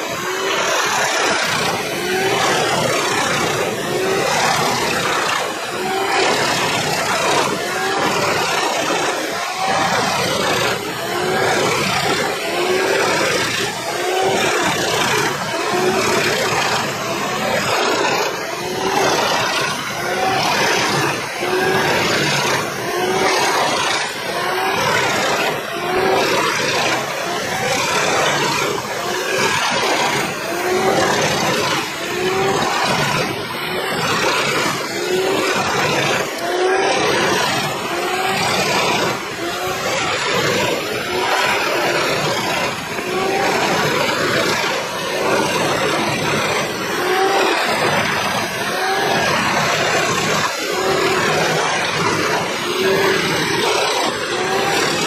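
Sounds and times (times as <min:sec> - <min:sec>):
machine grinding against log: 0:00.0 - 0:55.0.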